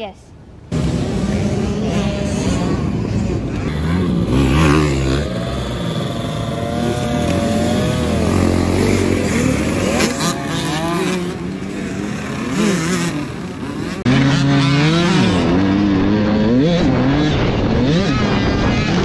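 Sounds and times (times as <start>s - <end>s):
dirt bike engines revving: 0.0s - 19.0s
close loud engine: 0.7s - 19.0s.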